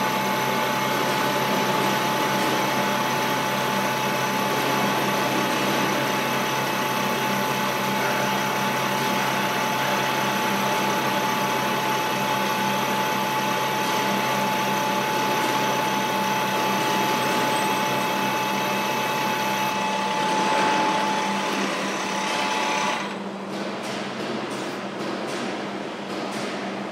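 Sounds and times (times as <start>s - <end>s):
lathe machining metal: 0.0s - 23.4s
high steady machine whine: 0.0s - 23.5s.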